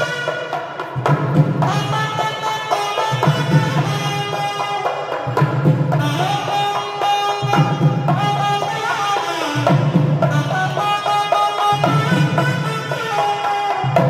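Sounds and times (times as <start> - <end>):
double-reed pipe melody: 0.0 - 14.0.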